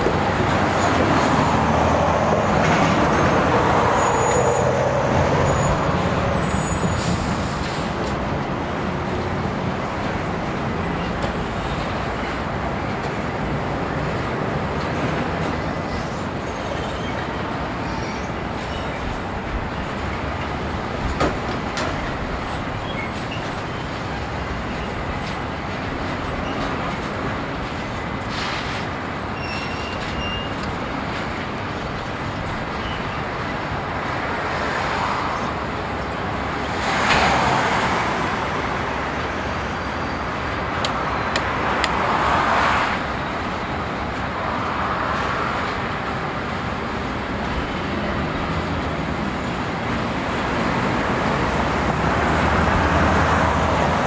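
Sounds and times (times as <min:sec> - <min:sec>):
vehicles passing: 0:00.0 - 0:29.3, 0:30.6 - 0:54.0.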